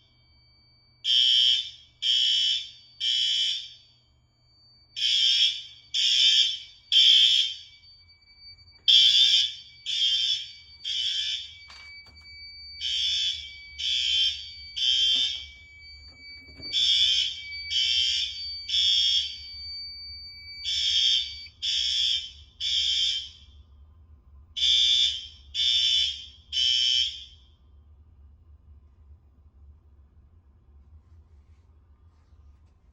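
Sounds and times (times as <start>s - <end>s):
fire alarm horn blasts: 0.0s - 23.6s, 24.6s - 27.6s.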